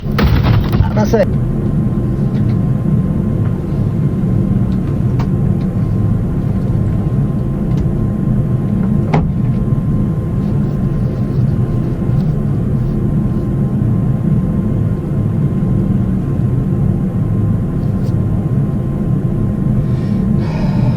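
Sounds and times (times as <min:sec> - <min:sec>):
airliner engine rumble: 0:00.0 - 0:20.9.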